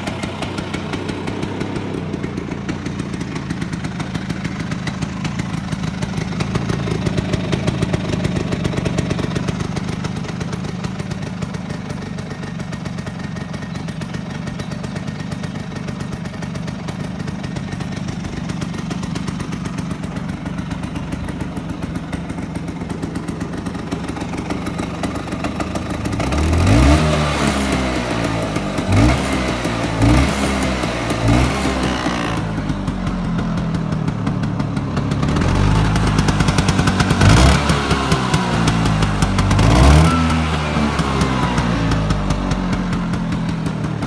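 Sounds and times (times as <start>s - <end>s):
scooter engine idling: 0.0s - 44.0s.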